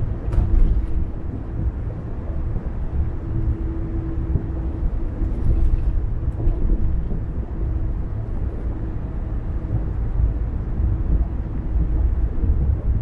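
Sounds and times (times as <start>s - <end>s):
faint steady hum: 0.0s - 13.0s
rumble of tyres and engine: 0.0s - 13.0s.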